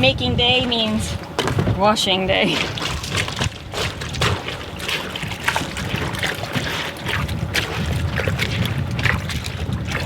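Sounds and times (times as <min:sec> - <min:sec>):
water sloshing in a bucket: 0:00.0 - 0:10.0.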